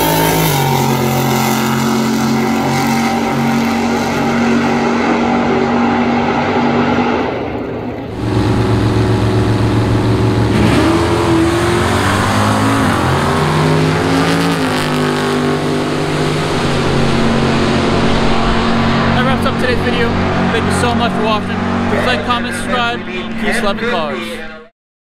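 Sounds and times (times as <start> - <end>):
car engine revving: 0.0 - 24.4.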